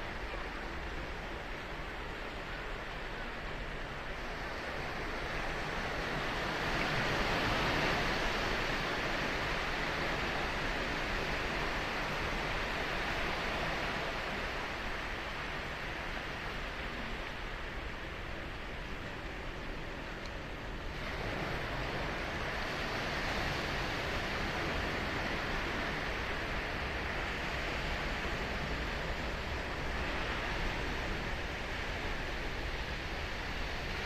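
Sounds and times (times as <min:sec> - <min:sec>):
surf breaking on a beach: 0:00.0 - 0:34.0.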